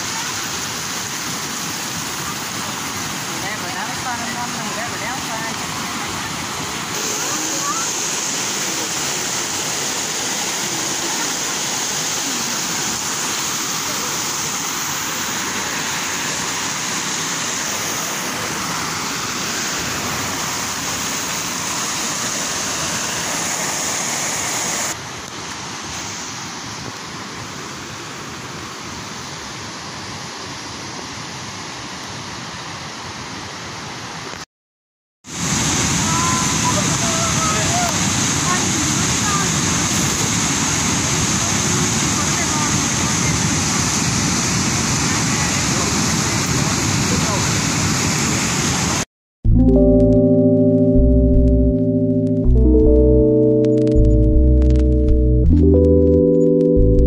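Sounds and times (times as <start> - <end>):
river water rushing over rocks: 0.0 - 34.4, 35.3 - 49.0.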